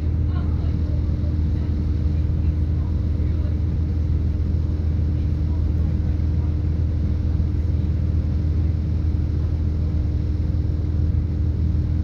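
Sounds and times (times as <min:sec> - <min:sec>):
train interior diesel rumble: 0:00.0 - 0:12.0.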